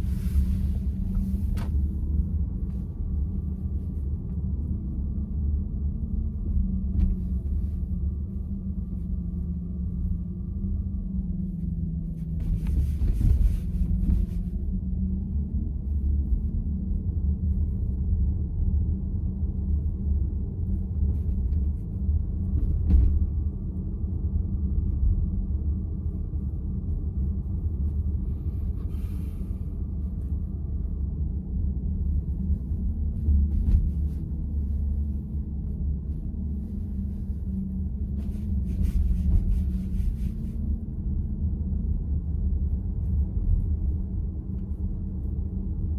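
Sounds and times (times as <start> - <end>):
road and tyre rumble in car cabin: 0.0 - 45.9.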